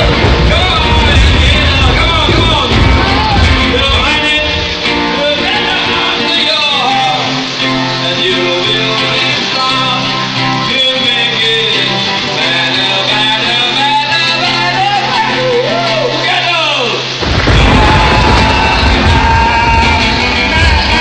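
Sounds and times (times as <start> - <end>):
person singing: 0.0 - 16.3, 17.4 - 21.0
amplified acoustic guitar: 0.0 - 21.0.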